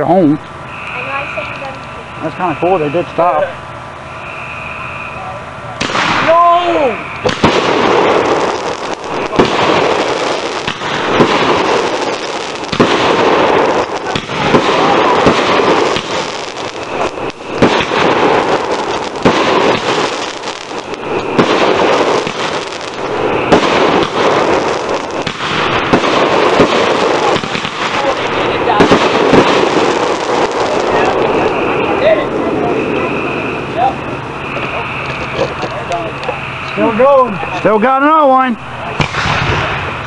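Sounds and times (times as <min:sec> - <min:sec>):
fireworks bangs: 0:00.0 - 0:40.0
fireworks crackling: 0:00.0 - 0:40.0.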